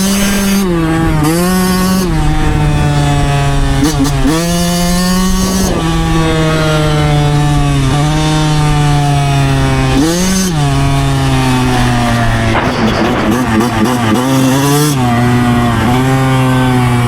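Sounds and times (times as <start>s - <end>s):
dirt bike engine buzzing: 0.0s - 17.0s.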